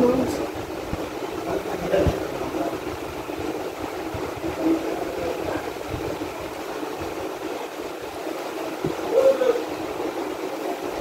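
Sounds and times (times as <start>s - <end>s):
restaurant dining room rumble: 0.0s - 11.0s.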